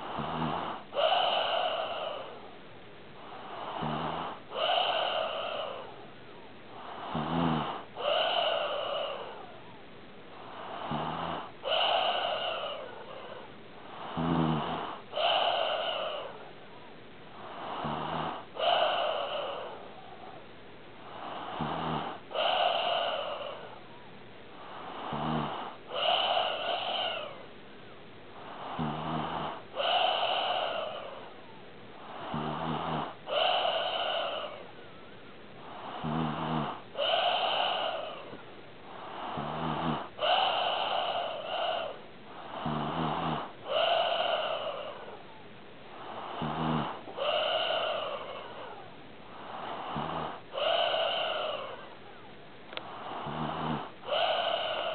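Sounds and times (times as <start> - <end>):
pet snoring: 0.0 - 2.4, 3.2 - 6.0, 6.7 - 9.6, 10.4 - 16.4, 17.4 - 19.9, 21.0 - 23.8, 24.6 - 27.4, 28.4 - 31.4, 32.0 - 34.7, 35.6 - 45.2, 45.9 - 52.0, 52.7 - 54.9.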